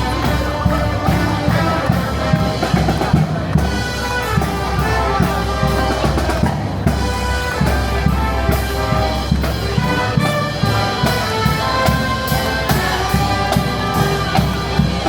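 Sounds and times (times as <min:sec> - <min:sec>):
loud music with drum beat: 0:00.0 - 0:15.0.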